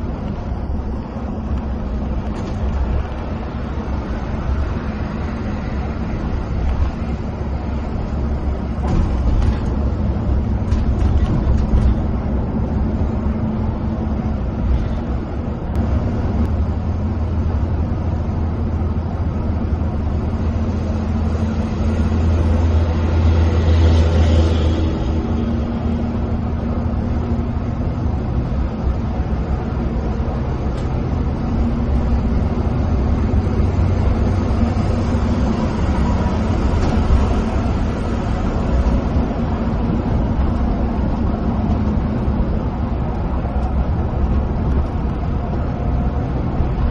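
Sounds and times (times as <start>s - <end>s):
coach engine drone: 0.0s - 46.9s
tyre and road noise: 0.0s - 46.9s.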